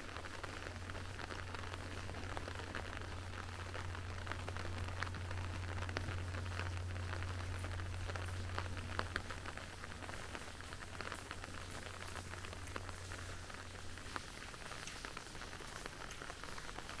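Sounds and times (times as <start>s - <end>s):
low steady hum: 0.0s - 16.7s
rain falling: 0.0s - 17.0s.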